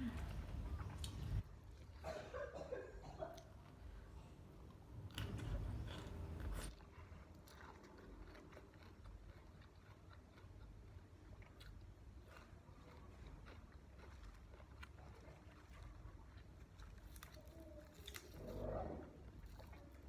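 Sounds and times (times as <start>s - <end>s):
person chewing food: 0.0s - 2.1s, 2.9s - 20.0s.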